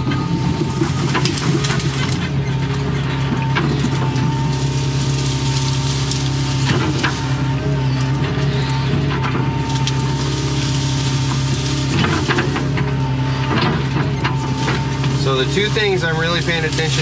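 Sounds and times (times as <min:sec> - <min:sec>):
branches cracking and snapping: 0:00.0 - 0:17.0
excavator diesel engine running: 0:00.0 - 0:17.0.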